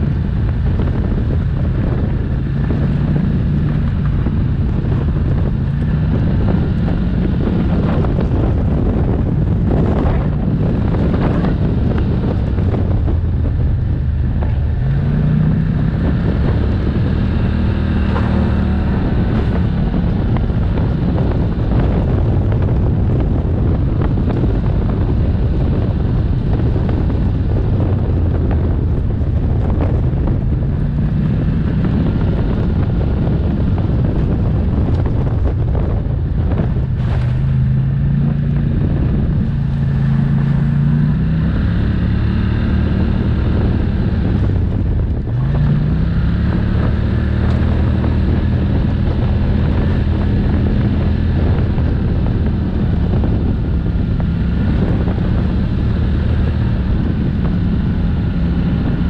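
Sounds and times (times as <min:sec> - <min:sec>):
atv engine running: 0:00.0 - 0:59.0
wind buffeting microphone: 0:00.0 - 0:59.0.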